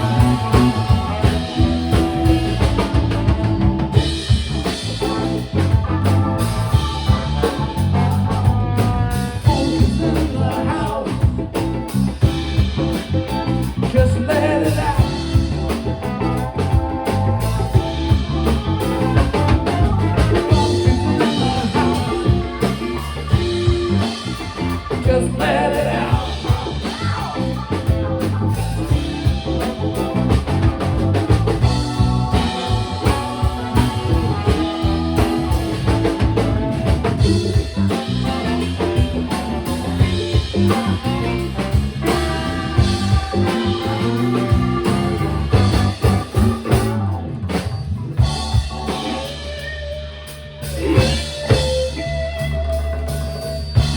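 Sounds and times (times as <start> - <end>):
live band playing funk: 0.0 - 53.9.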